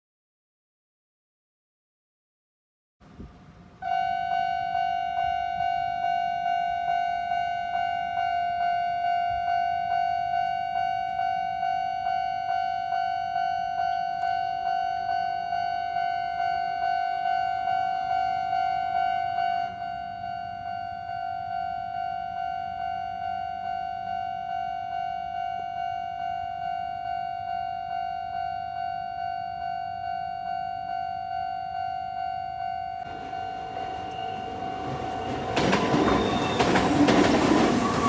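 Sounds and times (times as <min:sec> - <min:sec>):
level crossing warning bell: 0:03.9 - 0:38.0.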